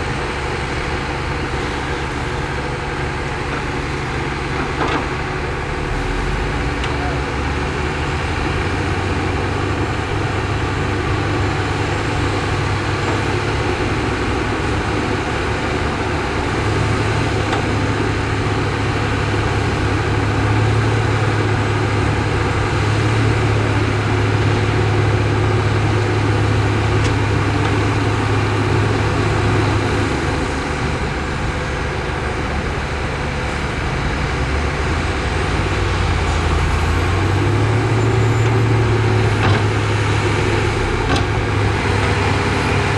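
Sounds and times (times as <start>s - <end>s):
diesel machinery engine drone: 0.0s - 42.9s.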